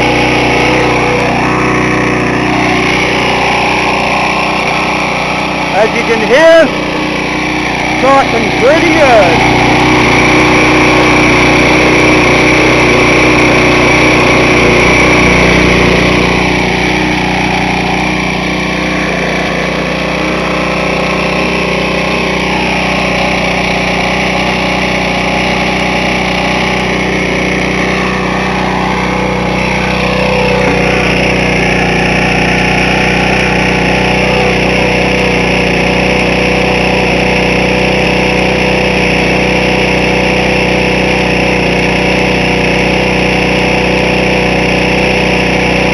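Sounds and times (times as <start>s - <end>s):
lawn mower engine running: 0.0s - 45.9s.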